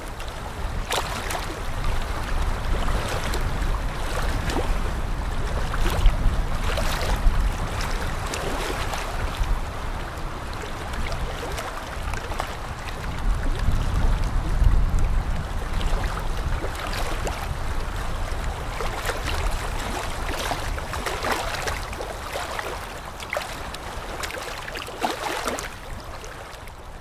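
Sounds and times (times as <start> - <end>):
low rumble of surf: 0.0 - 27.0
ocean waves splashing: 0.0 - 27.0.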